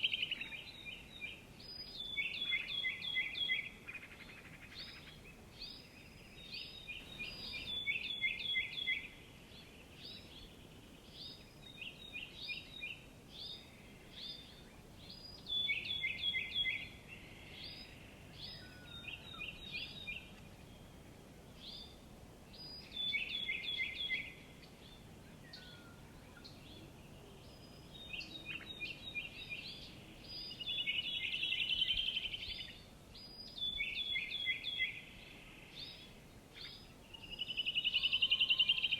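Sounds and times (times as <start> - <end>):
faint background hiss: 0.0 - 38.9
small songbirds chirping: 0.0 - 38.9.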